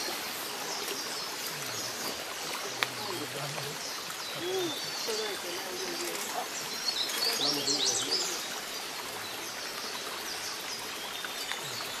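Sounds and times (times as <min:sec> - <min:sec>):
forest ambience hiss: 0:00.0 - 0:12.0.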